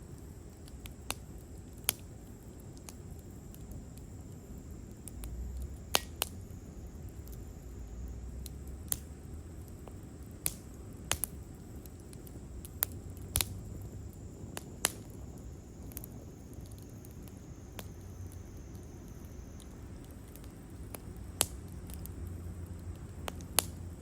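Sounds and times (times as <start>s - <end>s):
low rumble of burning: 0.0s - 24.0s
campfire pops and snaps: 0.1s - 7.7s, 8.4s - 24.0s.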